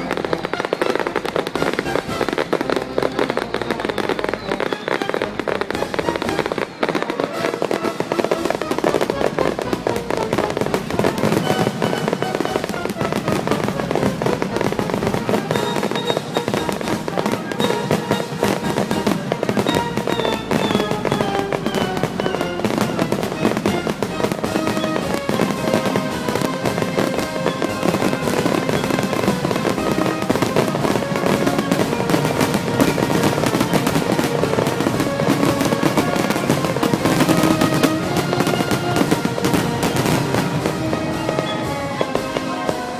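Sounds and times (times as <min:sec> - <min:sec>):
fireworks bangs and crackling: 0:00.0 - 0:42.9
music playing: 0:00.0 - 0:42.9.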